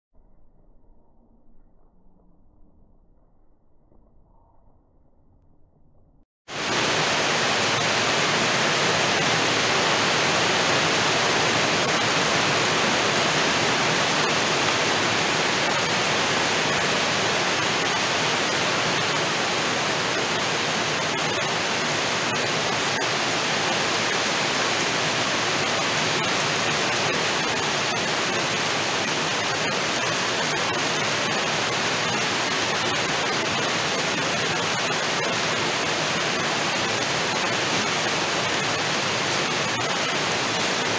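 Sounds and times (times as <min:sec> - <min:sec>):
heavy rain: 0:06.5 - 0:40.9.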